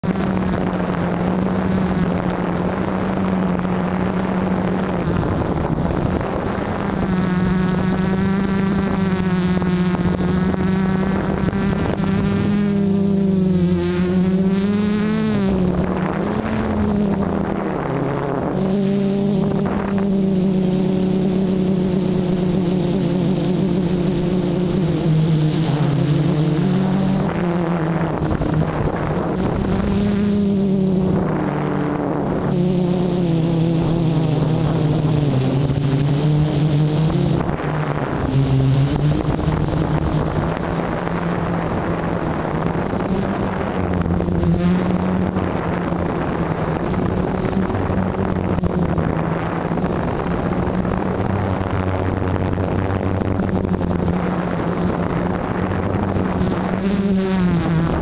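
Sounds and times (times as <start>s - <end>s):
quadcopter motors buzzing: 0.0s - 58.0s
thin high whine: 0.0s - 58.0s.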